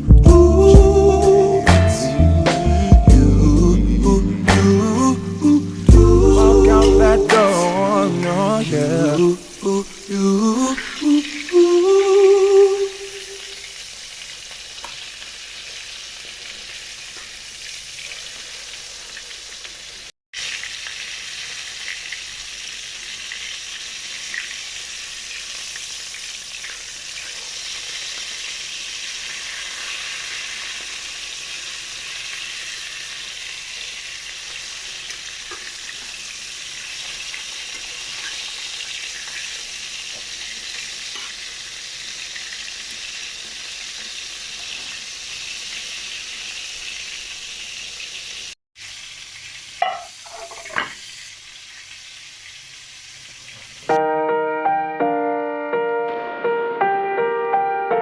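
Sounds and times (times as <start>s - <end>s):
food sizzling in a pan: 4.5s - 54.0s.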